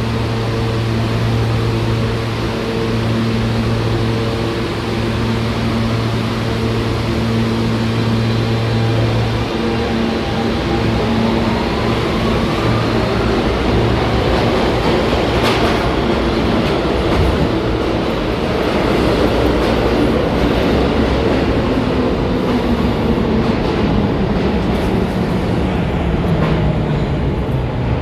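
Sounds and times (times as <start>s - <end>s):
steady humming tones: 0.0s - 28.0s
train wheels on rails: 0.0s - 28.0s.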